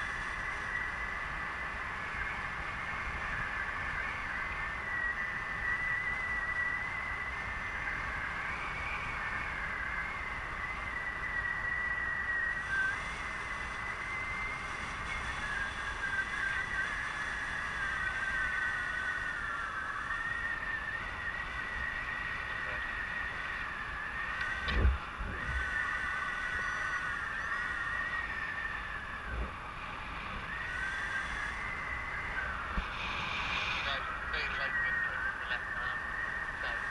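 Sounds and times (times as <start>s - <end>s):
high wind whistle: 0.0s - 36.9s
wind buffeting microphone: 0.0s - 36.9s.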